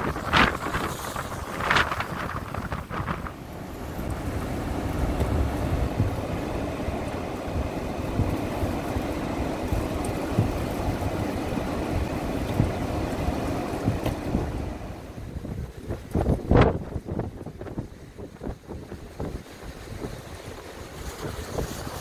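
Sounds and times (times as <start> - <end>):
storm winds buffeting a car: 0.0 - 22.0.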